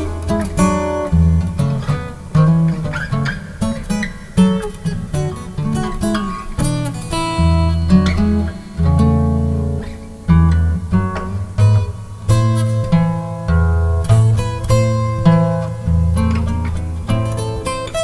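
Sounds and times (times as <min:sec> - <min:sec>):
fingerstyle acoustic guitar ragtime: 0:00.0 - 0:18.0.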